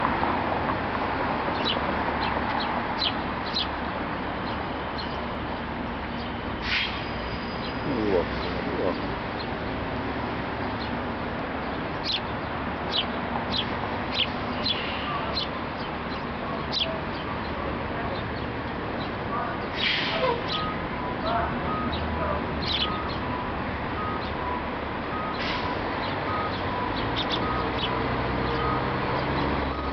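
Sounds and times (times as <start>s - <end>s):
outdoor background noise: 0.0s - 29.9s
small birds chirping: 1.4s - 23.3s, 24.0s - 24.4s, 25.1s - 29.9s.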